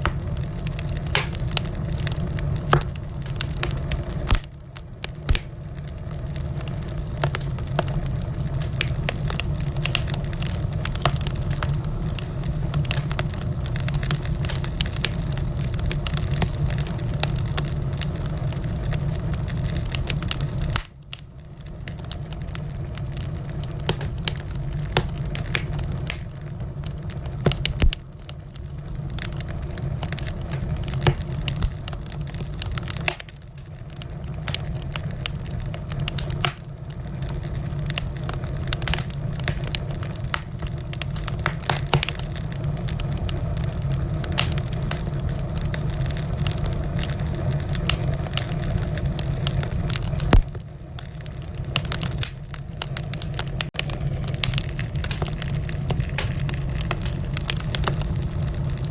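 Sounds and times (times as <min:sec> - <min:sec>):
fire popping and snapping: 0:00.0 - 0:58.9
low rumble of fire: 0:00.0 - 0:58.9
wood fire crackling: 0:00.0 - 0:58.9.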